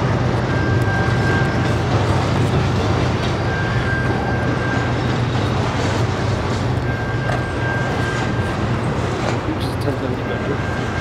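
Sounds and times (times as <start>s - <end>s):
freight train wheels rumbling on rail: 0.0s - 11.0s.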